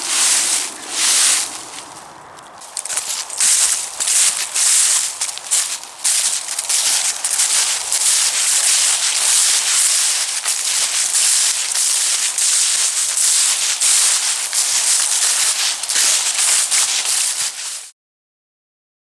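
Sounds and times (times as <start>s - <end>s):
footsteps crunching dry leaves: 0.0s - 17.9s.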